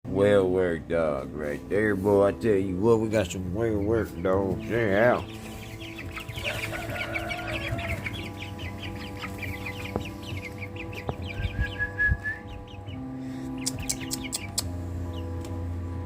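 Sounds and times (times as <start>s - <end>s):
chicks peeping: 0.2s - 16.0s.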